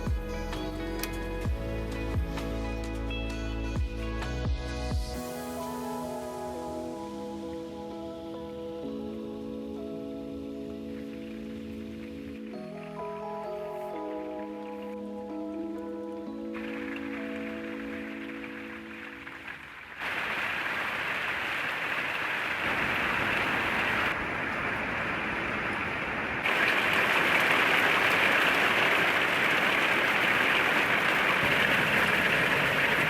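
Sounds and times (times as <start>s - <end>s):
rain: 5.1s - 33.0s
wind: 5.2s - 33.0s.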